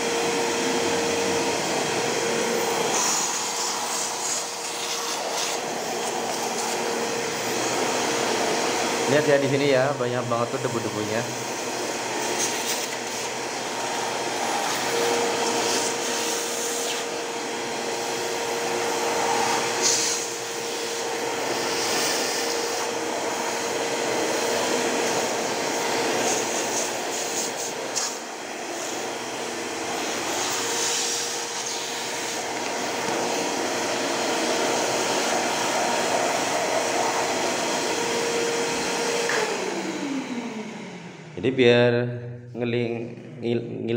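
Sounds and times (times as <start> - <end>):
vacuum cleaner whining: 0.0 - 43.9.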